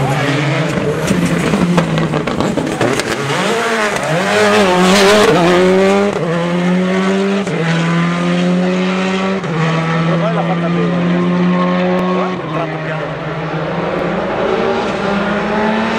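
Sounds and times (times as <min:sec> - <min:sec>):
rally car engine revving: 0:00.0 - 0:15.9.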